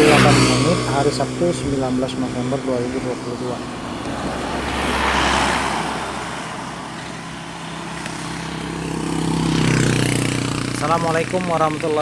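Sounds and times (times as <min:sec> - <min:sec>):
vehicle sweeping past: 0:00.0 - 0:10.9
vehicle engine approaching: 0:00.0 - 0:12.0.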